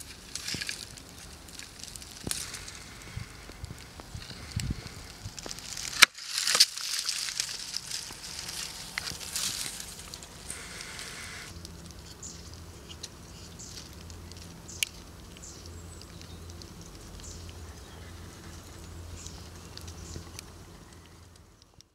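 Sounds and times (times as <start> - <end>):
small clicks and rustles: 0.0 - 10.6, 11.5 - 21.9
steady low hum: 0.0 - 21.9.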